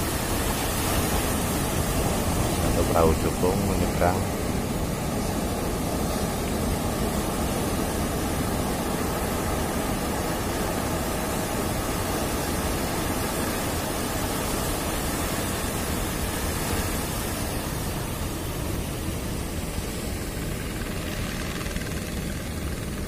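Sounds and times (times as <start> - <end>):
ocean surf breaking on rocks: 0.0 - 23.0.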